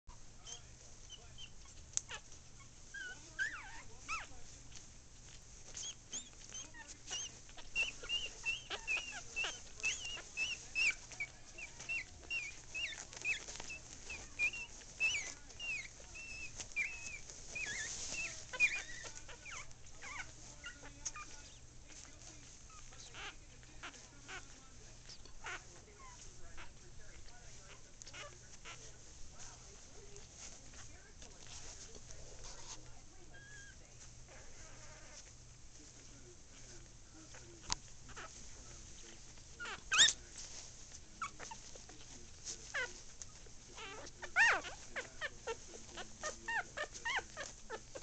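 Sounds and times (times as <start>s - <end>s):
soft clicks and rustles: 0.1s - 48.0s
puppies squeaking and whimpering: 0.2s - 48.0s.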